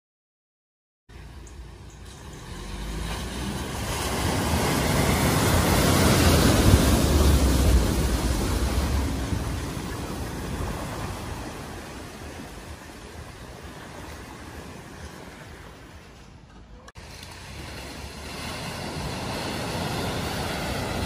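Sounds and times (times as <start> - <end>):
flooded stream rushing: 1.1 - 21.0
van driving through water: 1.1 - 21.0.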